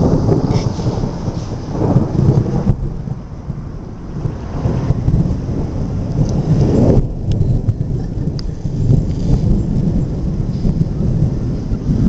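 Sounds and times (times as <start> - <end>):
rain falling: 0.0 - 12.0
thunder rumbling: 0.0 - 12.0.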